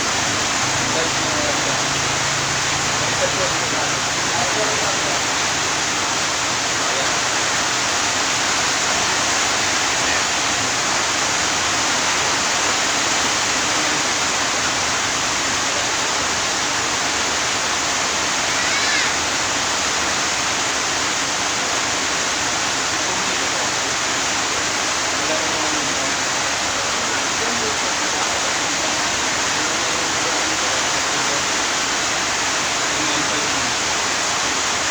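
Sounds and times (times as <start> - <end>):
steady rushing hiss: 0.0 - 34.9.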